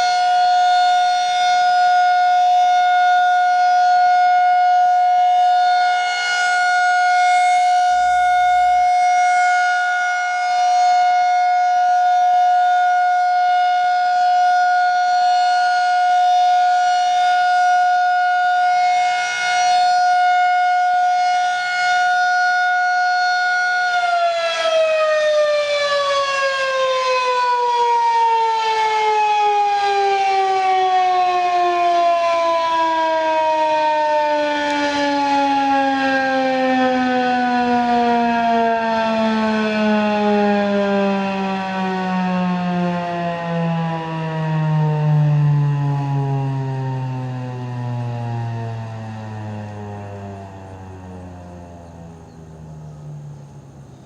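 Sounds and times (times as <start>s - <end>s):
warning siren: 0.0s - 54.0s.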